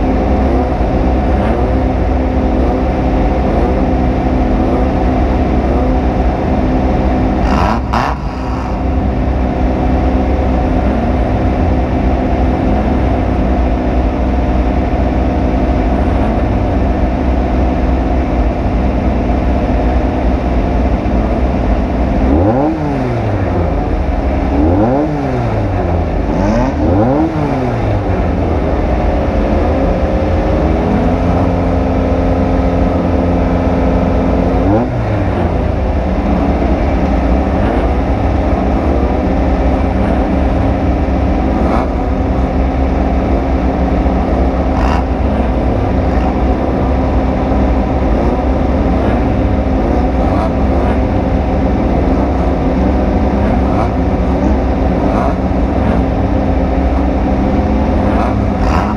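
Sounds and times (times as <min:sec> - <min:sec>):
heavy low rumble: 0:00.0 - 0:58.9
race vehicle engine revving: 0:00.0 - 0:58.9.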